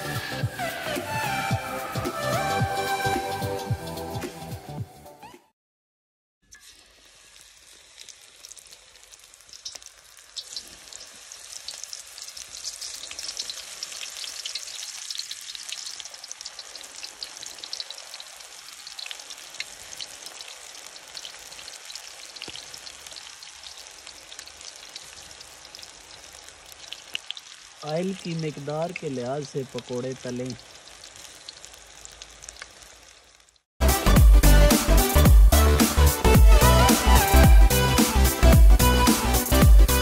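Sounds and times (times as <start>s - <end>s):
batter sizzling in hot oil: 6.4s - 40.0s.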